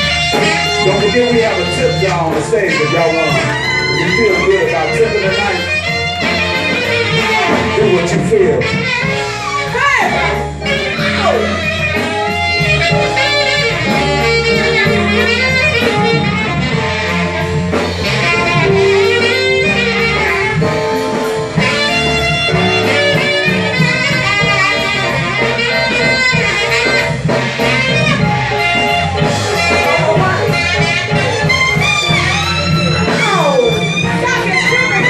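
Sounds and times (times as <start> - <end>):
drum kit: 0.0 - 35.0
guitar: 0.0 - 35.0
saxophone: 0.0 - 35.0.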